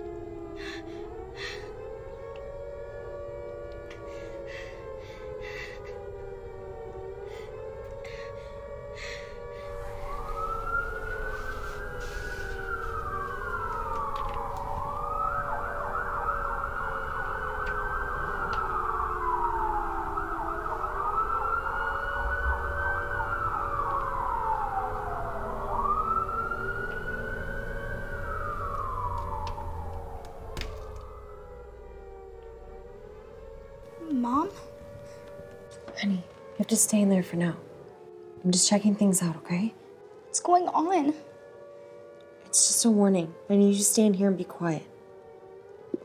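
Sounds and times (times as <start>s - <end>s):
high warning siren wailing: 0.0s - 46.0s
low wavering siren tone: 0.0s - 46.0s.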